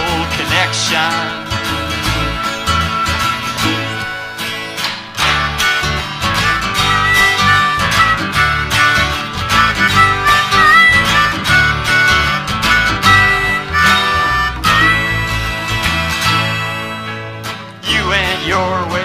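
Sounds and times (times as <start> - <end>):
harmonica bending notes: 0.0 - 18.6
strummed acoustic guitar: 0.0 - 19.0.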